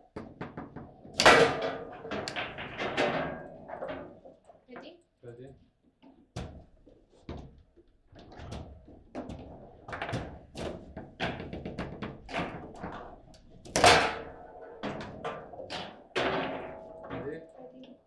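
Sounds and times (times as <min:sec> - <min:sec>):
table football knocks and clacks: 0:00.0 - 0:03.9, 0:06.3 - 0:17.4.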